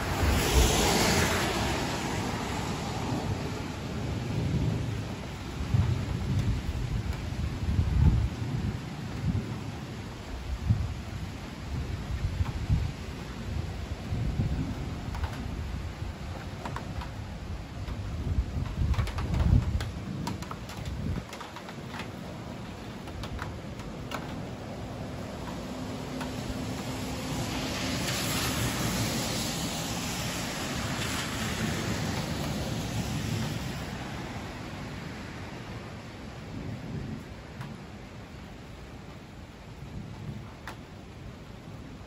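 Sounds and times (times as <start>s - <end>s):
rain rushing: 0.0s - 42.0s
wind buffeting microphone: 0.0s - 42.0s.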